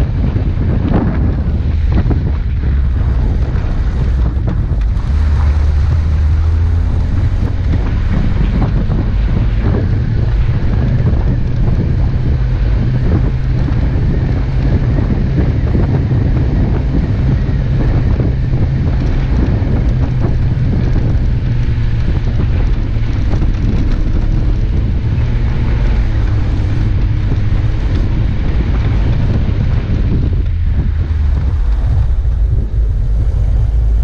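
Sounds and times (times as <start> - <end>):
vehicle engine and tyres rumbling: 0.0 - 34.0
wind buffeting microphone: 0.0 - 34.0.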